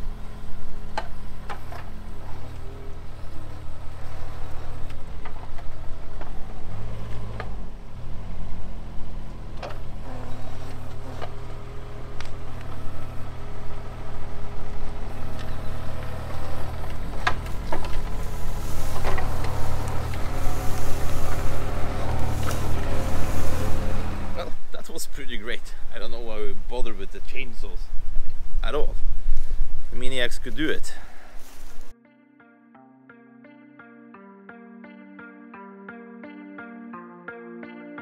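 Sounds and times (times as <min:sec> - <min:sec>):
diesel engine under load: 0:00.0 - 0:31.9.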